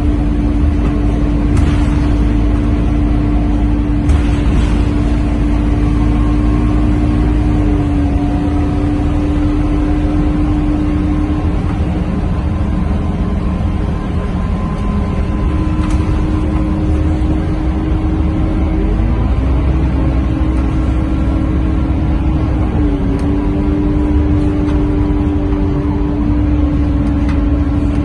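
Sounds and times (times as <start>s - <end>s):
bus diesel engine droning: 0.0s - 28.0s
road rumble: 0.0s - 28.0s.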